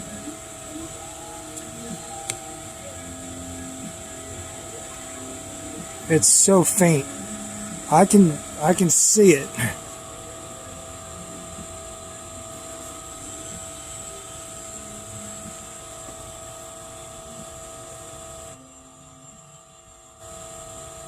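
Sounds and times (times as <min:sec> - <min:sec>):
smoke machine hiss: 0:00.0 - 0:21.0
smoke machine pump humming: 0:00.0 - 0:21.0.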